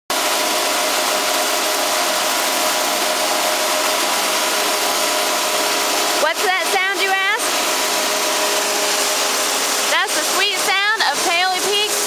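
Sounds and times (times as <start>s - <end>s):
mechanical hum: 0.1s - 12.0s.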